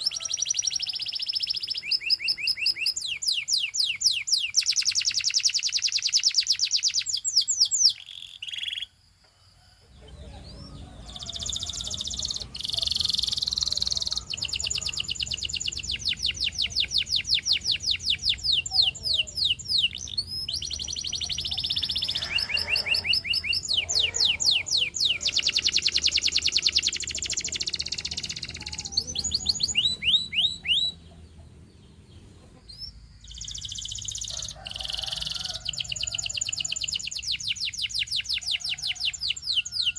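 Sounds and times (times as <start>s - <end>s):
canary singing trills: 0.0s - 9.0s, 9.6s - 39.9s.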